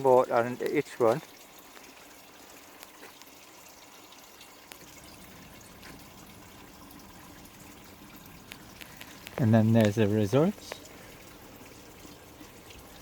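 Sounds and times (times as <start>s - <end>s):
water drips: 0.0s - 13.0s
water trickling: 0.0s - 13.0s.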